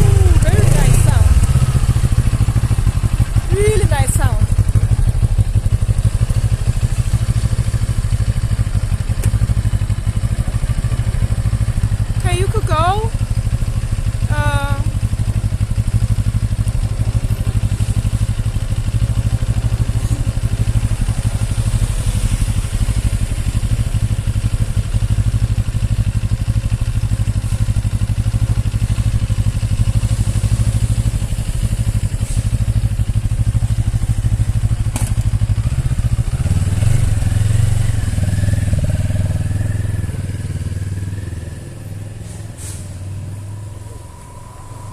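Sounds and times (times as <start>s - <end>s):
motorcycle engine running: 0.0s - 42.2s.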